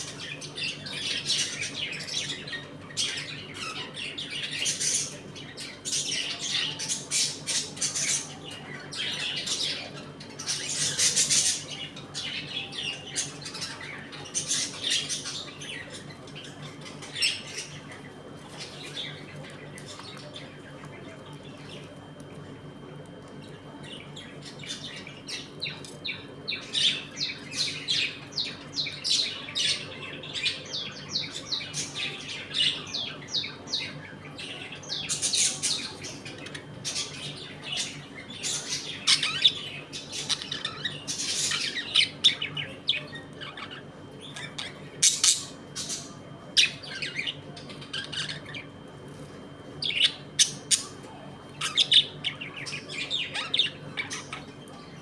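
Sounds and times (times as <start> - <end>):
budgerigars chattering: 0.0 - 17.9, 24.3 - 48.8, 49.8 - 55.0
faint steady hum: 0.0 - 55.0.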